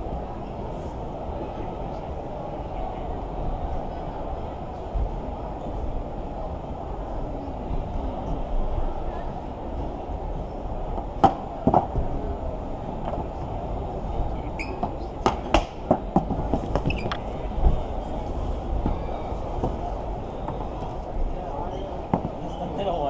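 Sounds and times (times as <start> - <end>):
crowded hall din: 0.0 - 23.0.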